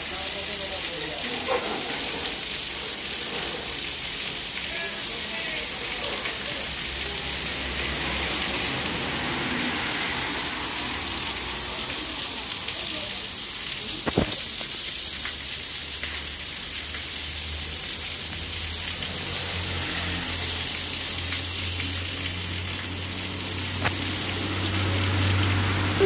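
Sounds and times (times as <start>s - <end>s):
heavy rain on a road: 0.0s - 26.0s.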